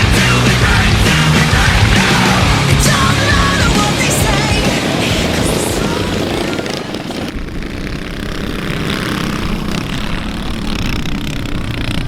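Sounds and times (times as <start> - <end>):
mini bike engines buzzing: 0.0 - 12.0.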